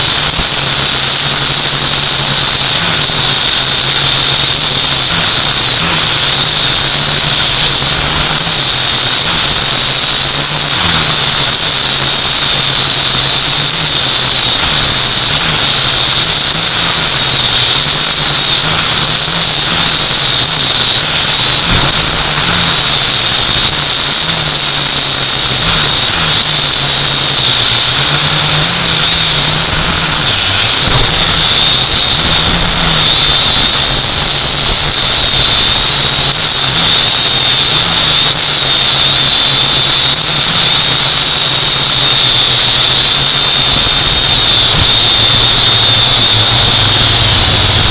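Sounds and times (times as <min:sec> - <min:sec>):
drone propellers whining: 0:00.0 - 0:47.9
low motor buzz: 0:00.0 - 0:47.9.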